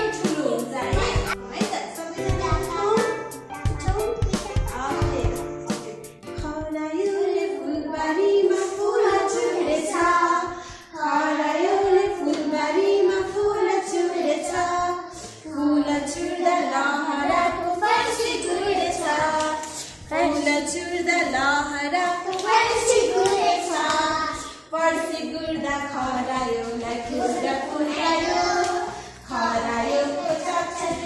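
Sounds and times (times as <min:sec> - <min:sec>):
children singing: 0:00.0 - 0:01.4, 0:07.0 - 0:31.0
woman singing: 0:00.0 - 0:01.4, 0:06.4 - 0:31.0.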